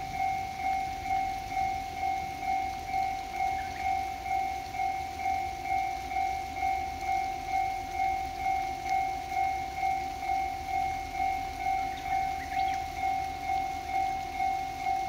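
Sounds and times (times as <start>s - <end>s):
railway crossing warning bell: 0.0s - 15.0s.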